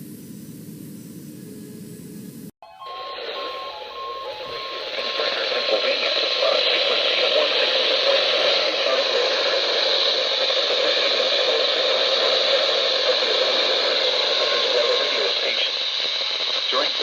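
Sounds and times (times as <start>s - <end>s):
radio static hiss: 3.0s - 17.0s.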